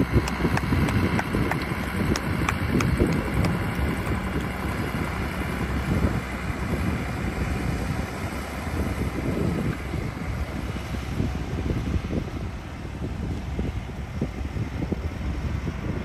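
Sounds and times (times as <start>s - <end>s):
tractor engine running: 0.0s - 16.0s
wind buffeting microphone: 0.0s - 16.0s.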